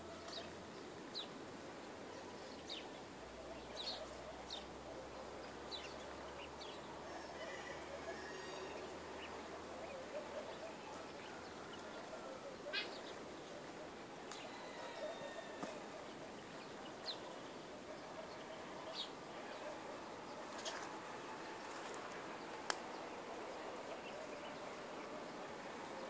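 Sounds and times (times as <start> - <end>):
faint rural morning ambience: 0.0 - 26.0.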